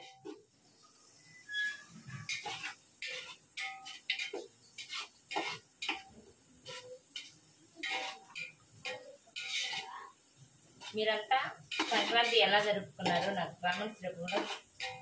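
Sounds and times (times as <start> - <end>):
metal ladle scraping a pot: 0.0 - 0.4, 1.5 - 9.9, 11.6 - 15.0.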